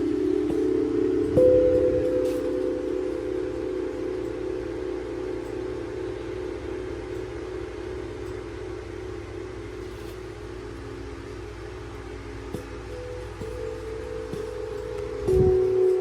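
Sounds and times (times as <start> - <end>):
singing bowls ringing: 0.0 - 8.8, 11.8 - 16.0.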